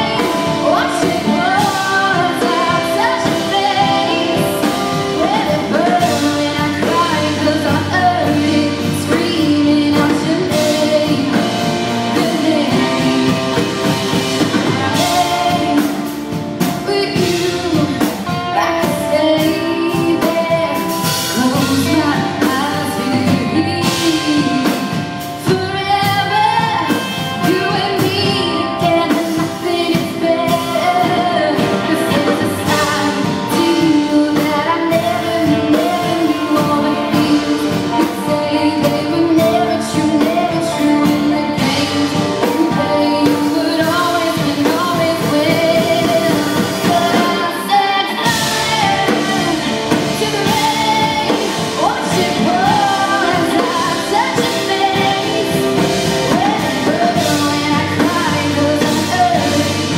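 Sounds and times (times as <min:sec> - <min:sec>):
band playing a pop song: 0:00.0 - 0:59.9
lead singer singing: 0:00.0 - 0:59.9
steady drum beat: 0:00.0 - 0:59.9.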